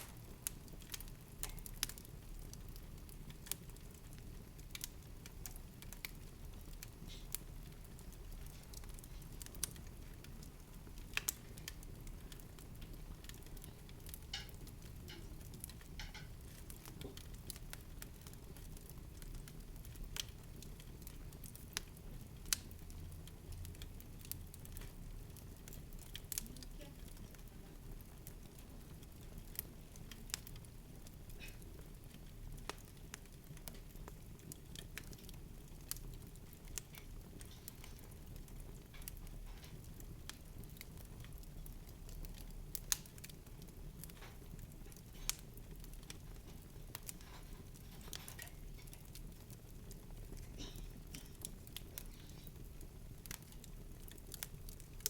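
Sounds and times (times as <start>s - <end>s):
soft clicks and crackles: 0.0s - 55.0s.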